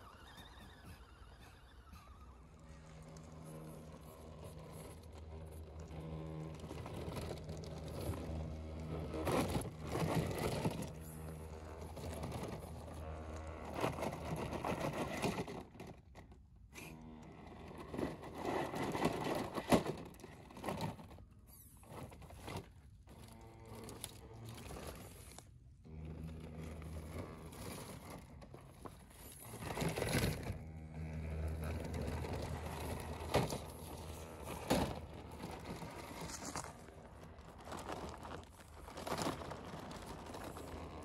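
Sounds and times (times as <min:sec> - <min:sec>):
electric motor whining: 0:00.0 - 0:41.0
tyres crunching over rough ground: 0:00.1 - 0:16.4, 0:17.3 - 0:41.0.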